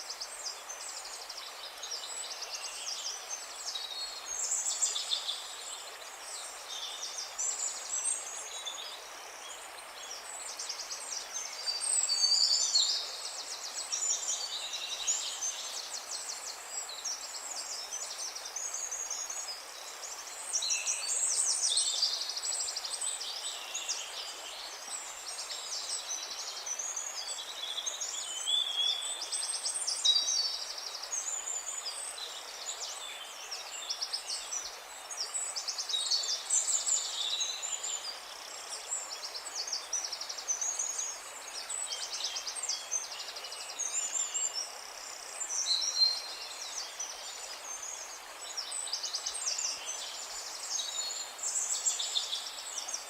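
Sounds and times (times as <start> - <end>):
faint outdoor hiss: 0.0 - 53.0.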